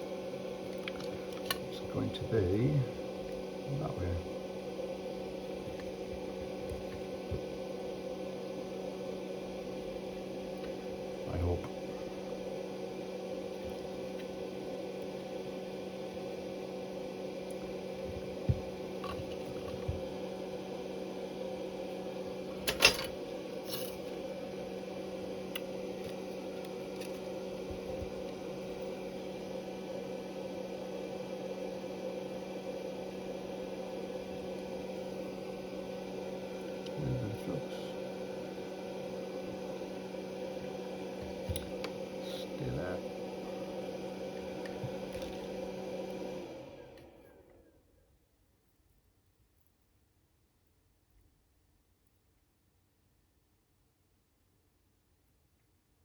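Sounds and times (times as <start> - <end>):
electrical hum: 0.0 - 47.6.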